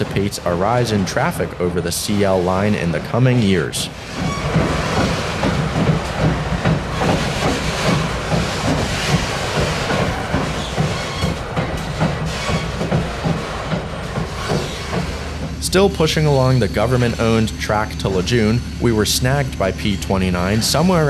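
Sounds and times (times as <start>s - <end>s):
wheels clacking over rail joints: 0.0s - 21.0s.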